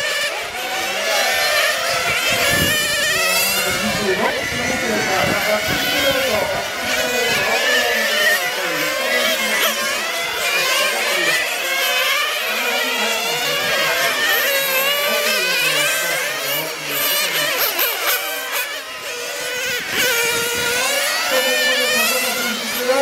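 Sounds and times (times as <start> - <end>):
rc car engines screaming: 0.0 - 23.0.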